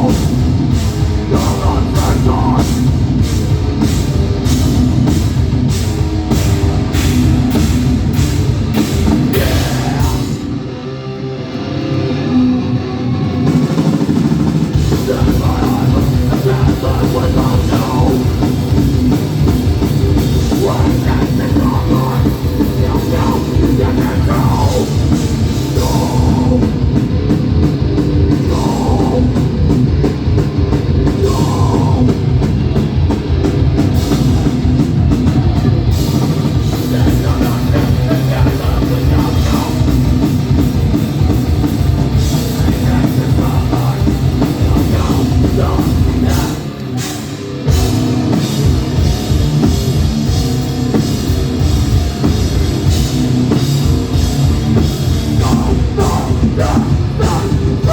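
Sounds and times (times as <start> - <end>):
punk band playing live: 0.0 - 57.9.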